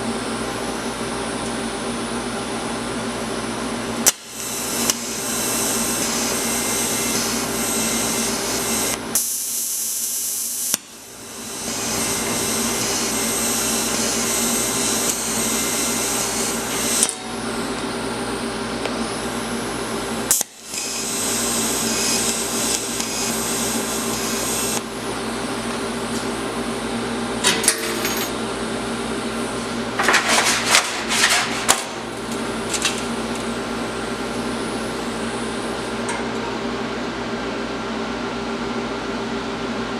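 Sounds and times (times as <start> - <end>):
power tool running: 4.0 - 36.0.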